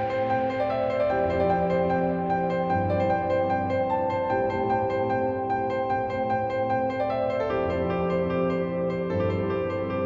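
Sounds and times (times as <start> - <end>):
soft piano instrumental: 0.0 - 10.0.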